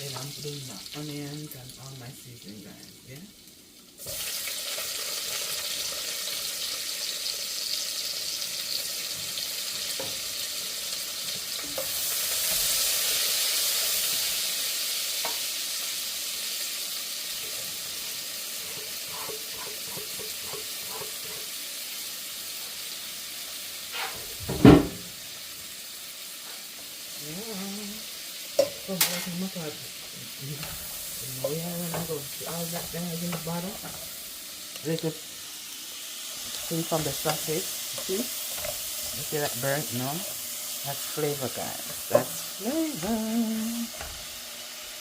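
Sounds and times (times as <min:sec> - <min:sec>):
vegetables sizzling in fat: 0:00.0 - 0:45.0.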